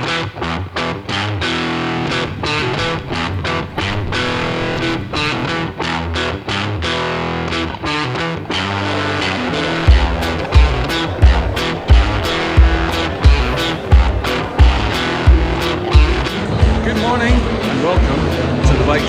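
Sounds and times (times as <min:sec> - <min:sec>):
distorted electric guitar music: 0:00.0 - 0:19.0.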